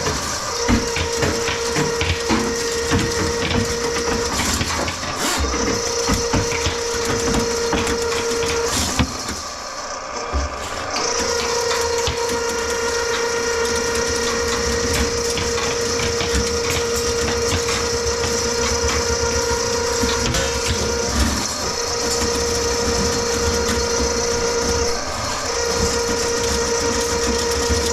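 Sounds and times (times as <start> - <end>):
drain cleaning machine humming: 0.0 - 27.9.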